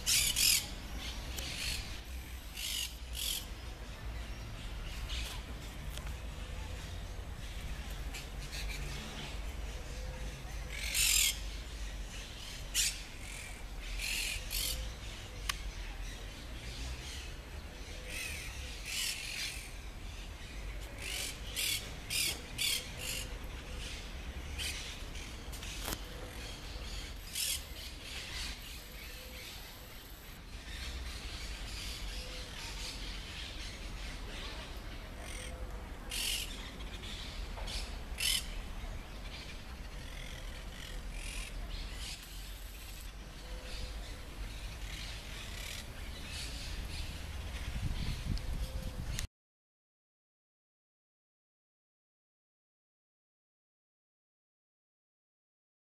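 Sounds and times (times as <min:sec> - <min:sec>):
birds calling: 0:00.0 - 0:49.3.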